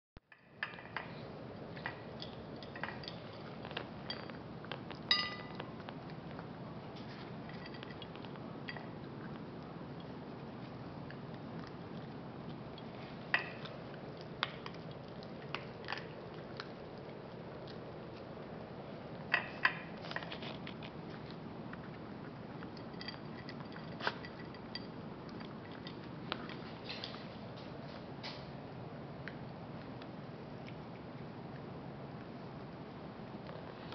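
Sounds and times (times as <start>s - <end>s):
dog eating from ceramic dish: 0.3s - 28.1s
low background hiss: 0.3s - 33.9s.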